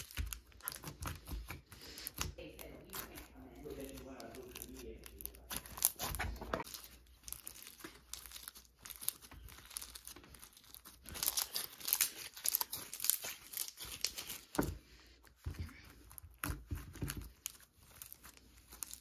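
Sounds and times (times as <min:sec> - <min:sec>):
slime crackling and popping: 0:00.0 - 0:14.7, 0:15.6 - 0:19.0.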